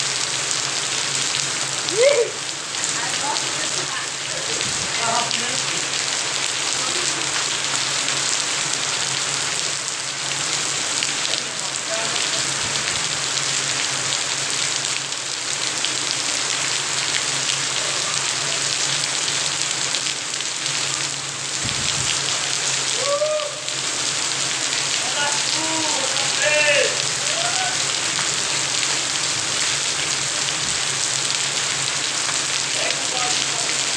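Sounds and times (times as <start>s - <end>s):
rain splashing on standing water: 0.0s - 33.9s.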